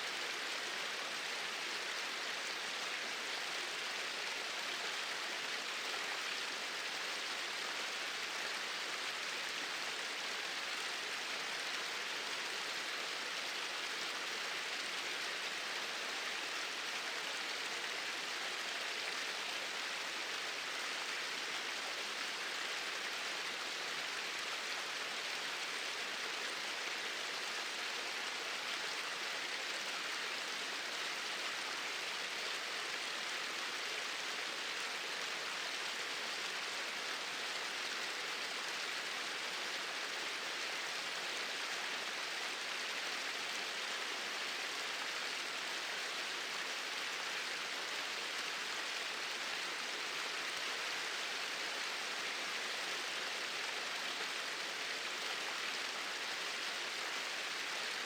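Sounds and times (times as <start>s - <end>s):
small waterfall pouring: 0.1s - 58.0s.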